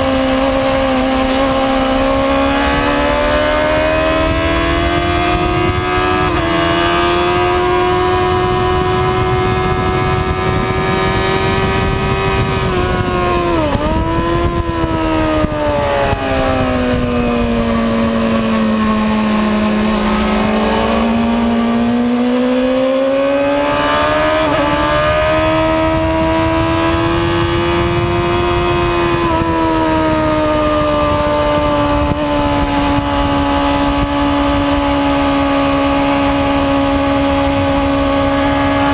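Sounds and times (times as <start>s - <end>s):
motorcycle engine racing: 0.0s - 38.9s
wind rush: 0.0s - 38.9s.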